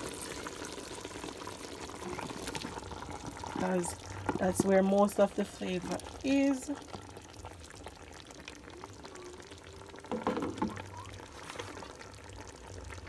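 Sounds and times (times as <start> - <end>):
beans and liquid pouring into pot: 0.0 - 13.0
stew simmering: 0.0 - 13.0.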